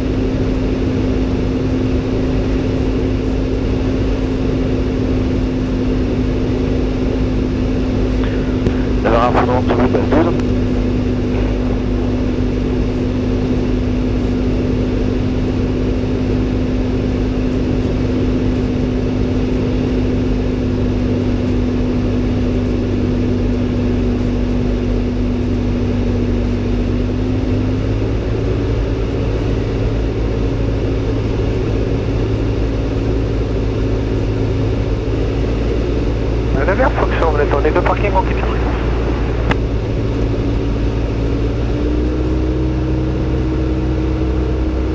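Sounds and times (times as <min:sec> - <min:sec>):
light aircraft engine and propeller: 0:00.0 - 0:44.9.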